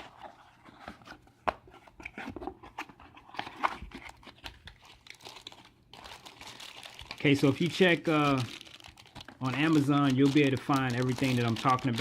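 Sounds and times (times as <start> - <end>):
packaging rustling and crinkling: 2.1 - 12.0.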